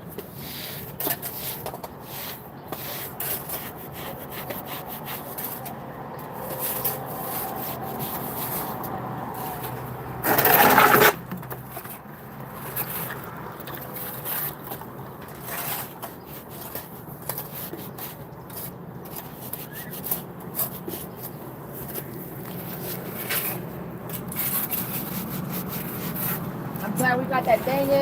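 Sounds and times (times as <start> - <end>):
scraping and rubbing: 0.2 - 28.0.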